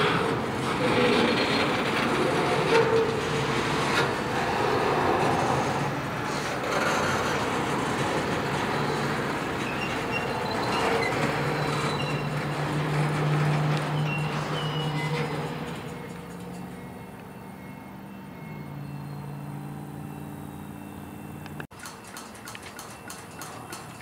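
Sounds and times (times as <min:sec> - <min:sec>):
train wheels on rails: 0:00.0 - 0:24.0.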